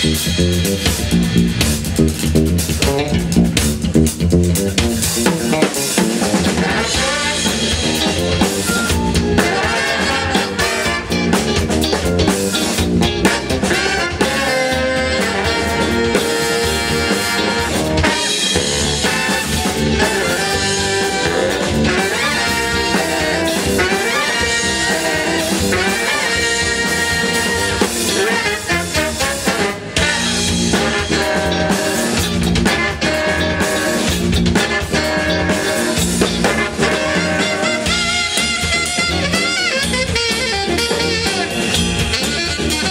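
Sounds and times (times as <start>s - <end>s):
live band playing: 0.0s - 42.9s.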